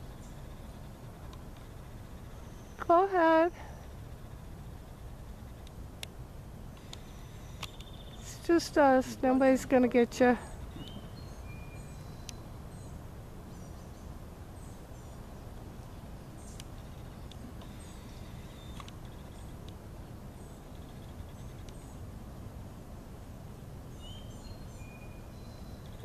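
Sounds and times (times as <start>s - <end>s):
small birds chirping: 0.0s - 22.3s, 23.2s - 26.0s.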